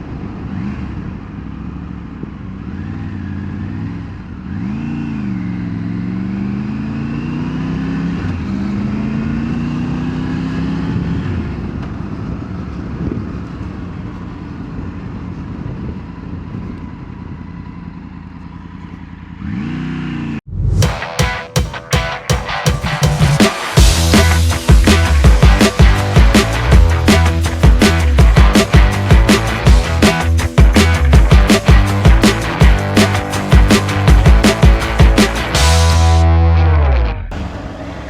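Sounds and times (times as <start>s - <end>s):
wind and road noise: 0.0s - 20.8s, 23.6s - 36.4s
motorcycle engine accelerating: 0.0s - 38.0s.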